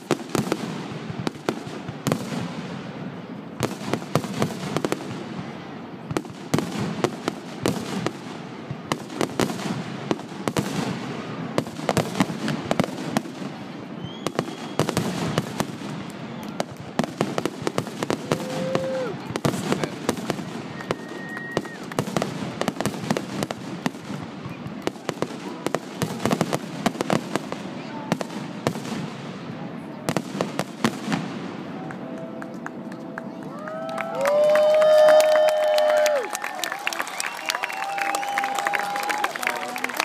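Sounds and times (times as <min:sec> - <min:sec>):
fireworks bangs and crackles: 0:00.0 - 0:36.3.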